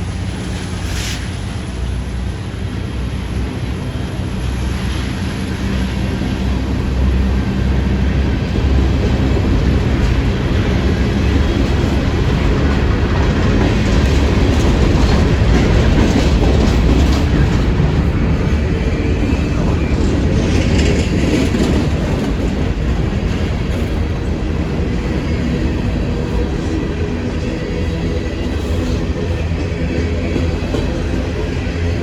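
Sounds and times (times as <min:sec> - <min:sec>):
freight train rolling along track: 0:00.0 - 0:32.0.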